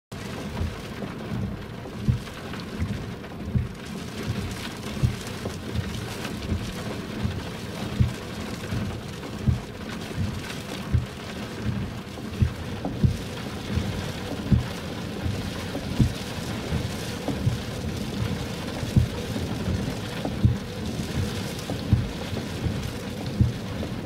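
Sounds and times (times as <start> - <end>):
rain: 0.1 - 24.0.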